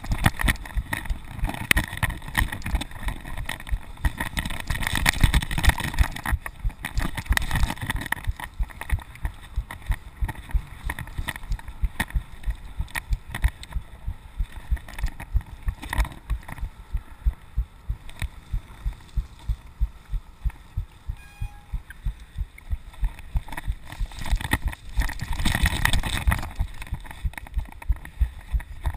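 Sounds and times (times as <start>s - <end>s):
bike thumping over rough ground: 0.0s - 21.2s, 22.1s - 28.9s
wind noise: 0.0s - 28.9s.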